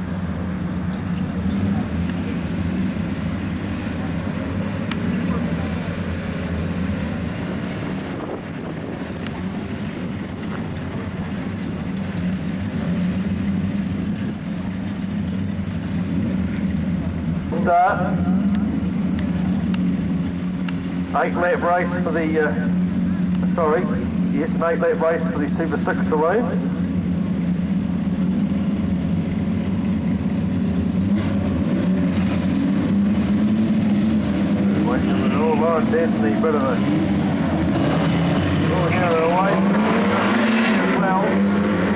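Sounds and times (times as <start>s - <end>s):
racing car engines droning: 0.0s - 41.9s.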